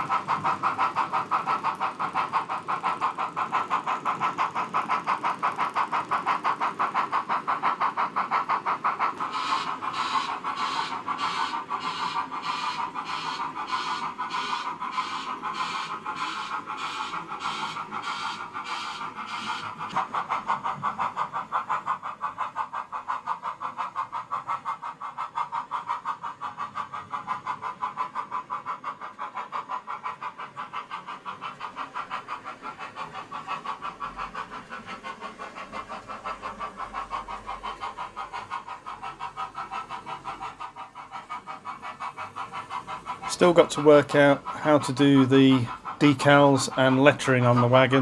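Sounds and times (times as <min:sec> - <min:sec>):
model steam locomotive chuffing: 0:00.0 - 0:48.0.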